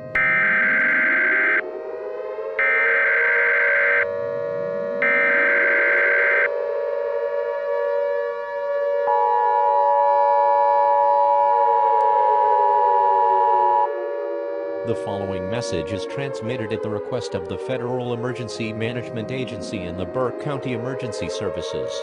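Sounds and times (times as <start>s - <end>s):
civil defense siren winding up: 0.0s - 22.0s.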